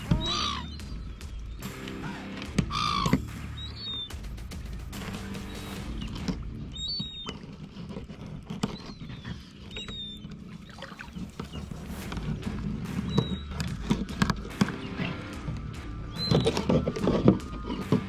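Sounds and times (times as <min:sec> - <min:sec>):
bird chirping: 0:00.0 - 0:01.8, 0:02.7 - 0:04.3, 0:05.1 - 0:07.6, 0:08.6 - 0:18.0.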